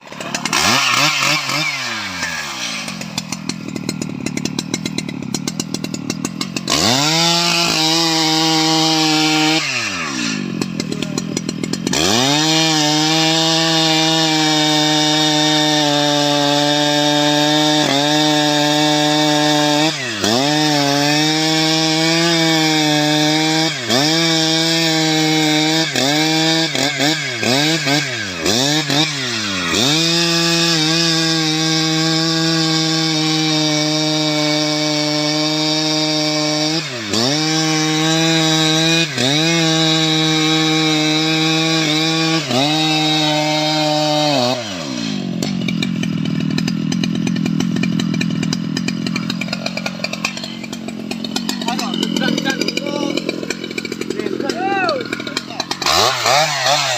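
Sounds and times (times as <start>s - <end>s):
chainsaw revving and cutting wood: 0.0s - 56.9s.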